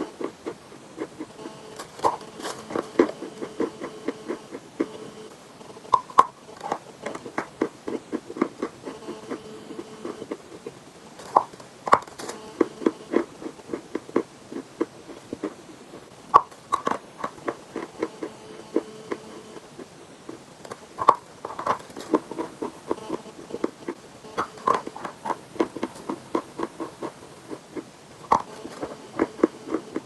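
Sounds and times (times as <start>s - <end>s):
chalk being chewed: 0.0s - 5.0s, 5.9s - 11.5s, 12.2s - 30.0s.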